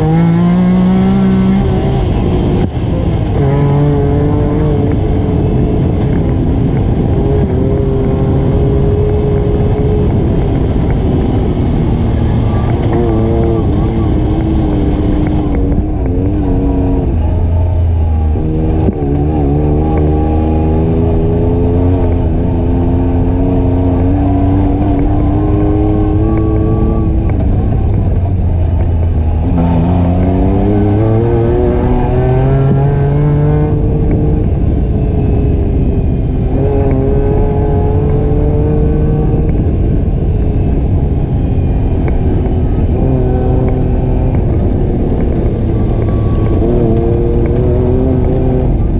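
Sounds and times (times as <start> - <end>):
atv engine accelerating: 0.0 - 48.9.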